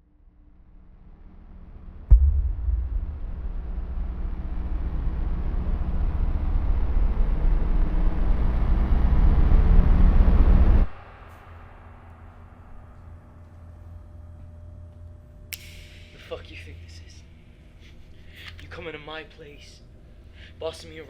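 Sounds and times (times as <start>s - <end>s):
low noisy rumble: 0.6s - 21.0s.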